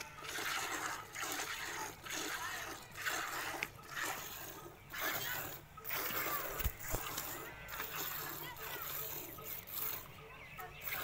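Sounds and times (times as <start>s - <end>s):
milk squirting into a pail: 0.0s - 10.1s.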